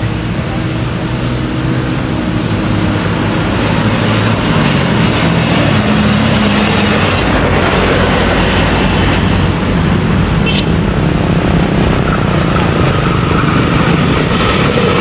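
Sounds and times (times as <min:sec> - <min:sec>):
locomotive engine drone: 0:00.0 - 0:15.0
train rolling noise: 0:02.1 - 0:15.0.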